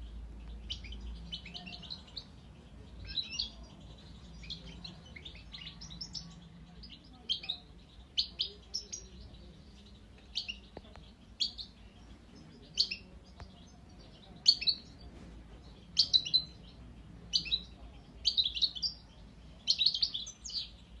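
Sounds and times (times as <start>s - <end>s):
young bird chirping and twittering: 0.0s - 21.0s.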